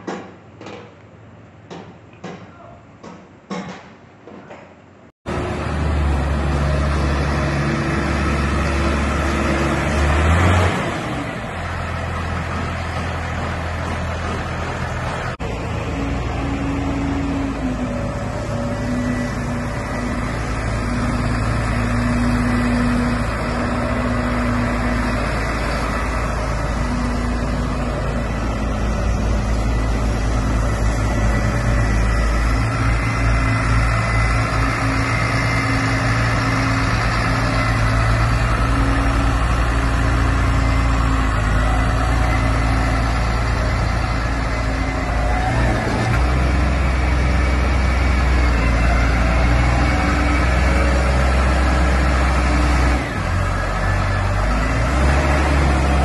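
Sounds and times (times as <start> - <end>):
tractor diesel engine running: 5.3 - 56.0.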